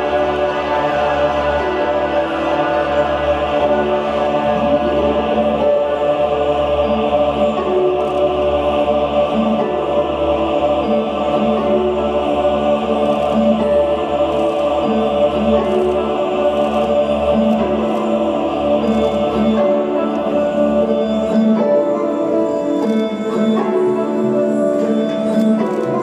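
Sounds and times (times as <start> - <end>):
ambient music over sound system: 0.0 - 26.0.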